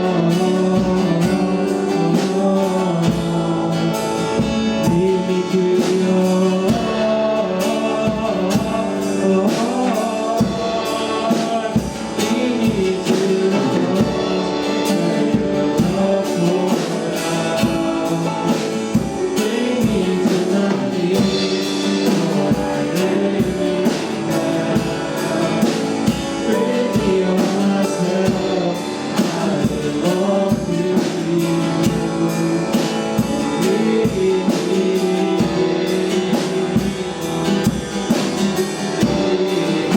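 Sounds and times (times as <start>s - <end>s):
live band with drums: 0.0s - 39.9s
person singing gospel: 0.0s - 39.9s.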